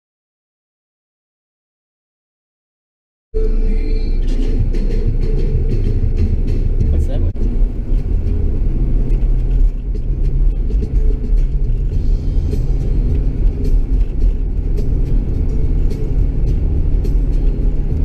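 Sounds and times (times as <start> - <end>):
car cabin rumble: 3.4 - 18.0.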